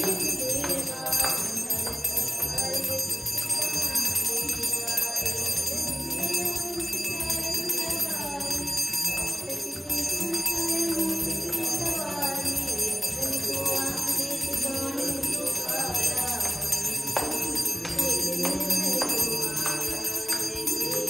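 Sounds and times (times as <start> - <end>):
hand bell ringing: 0.0 - 21.0
people singing: 0.0 - 21.0.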